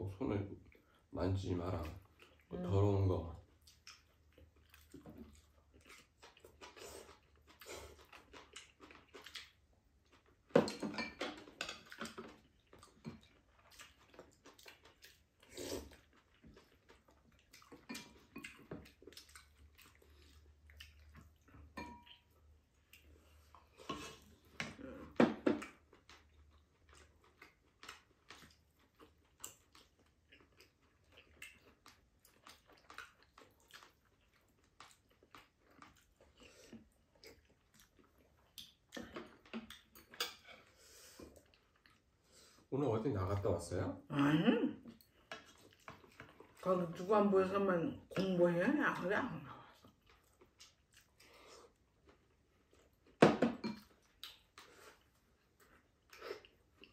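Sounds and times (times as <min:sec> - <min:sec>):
people chewing: 0:00.6 - 0:42.7, 0:44.2 - 0:48.4, 0:49.5 - 0:56.9.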